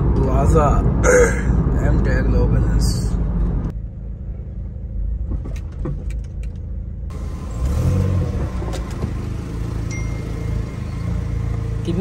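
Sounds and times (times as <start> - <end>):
car engine and tyres rumbling: 0.0 - 12.0
outside traffic noise: 0.0 - 12.0.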